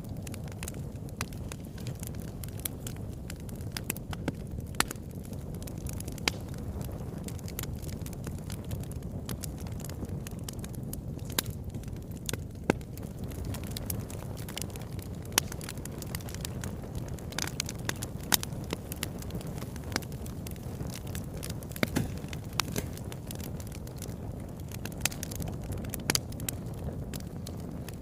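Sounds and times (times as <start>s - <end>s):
fireplace fire crackling: 0.0s - 28.0s.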